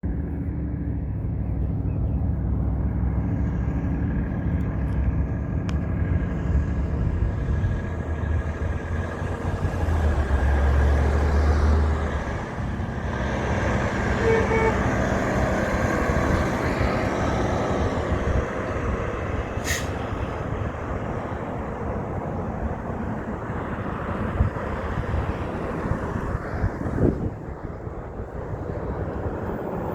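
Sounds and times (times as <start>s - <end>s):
heavy truck engine rumbling past: 0.0s - 29.9s
road traffic noise: 0.0s - 29.9s.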